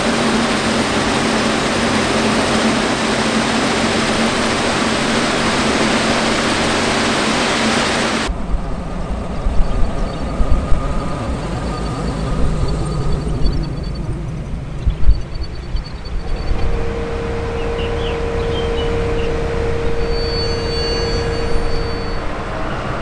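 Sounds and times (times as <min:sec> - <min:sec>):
deep rumble with bumps: 0:00.0 - 0:23.0
machine mechanical din: 0:00.0 - 0:23.0
steady hum: 0:00.0 - 0:23.0.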